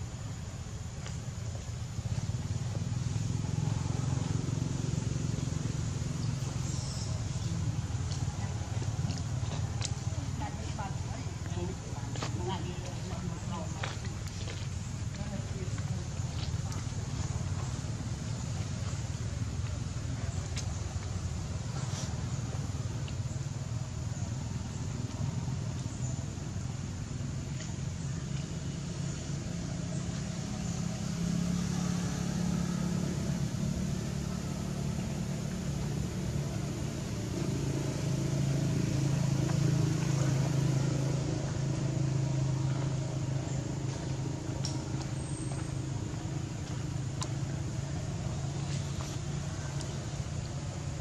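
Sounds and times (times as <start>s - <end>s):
outdoor background noise: 0.0s - 51.0s
vehicle engine humming: 0.0s - 51.0s.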